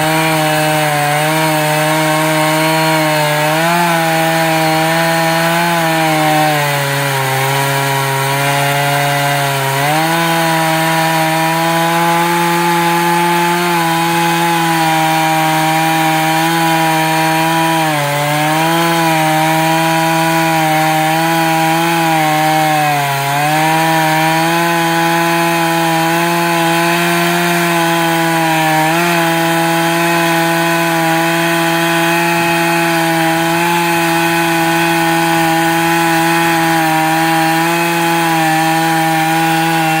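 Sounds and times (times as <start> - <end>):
sawmill humming: 0.0 - 40.0.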